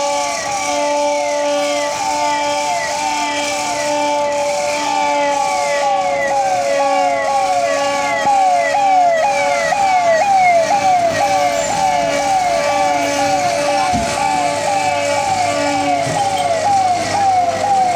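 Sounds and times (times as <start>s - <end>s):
fire truck electronic siren: 0.0s - 17.9s.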